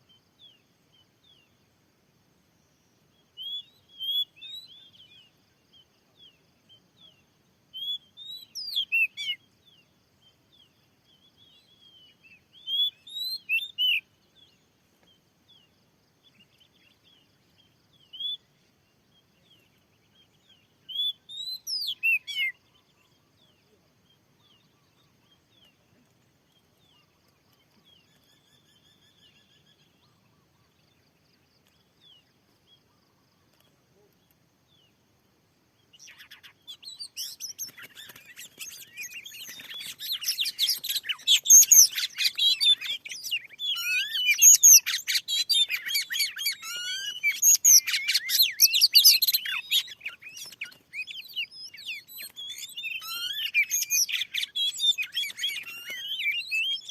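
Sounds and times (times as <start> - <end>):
bird singing whistles and trills: 3.1 - 25.8, 26.8 - 31.1, 35.8 - 56.9.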